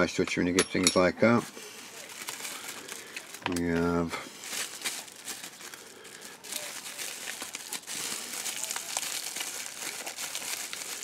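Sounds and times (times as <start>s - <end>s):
bubble wrap crinkling: 1.4s - 11.0s.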